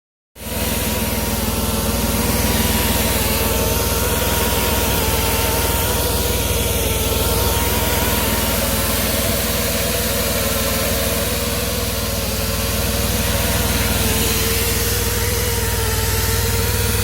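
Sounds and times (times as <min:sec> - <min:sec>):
cable blowing machine humming: 0:00.4 - 0:17.0.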